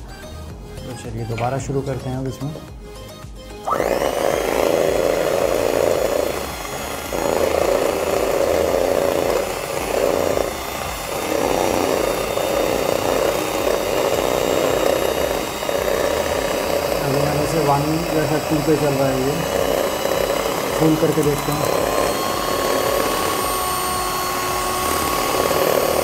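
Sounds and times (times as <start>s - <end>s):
electric hand mixer whirring: 0.0s - 26.0s.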